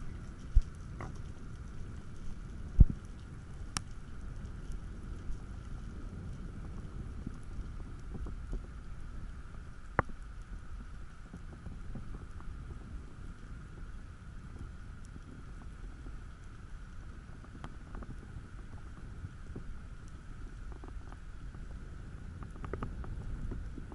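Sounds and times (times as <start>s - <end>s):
low underwater rumble: 0.0s - 23.9s.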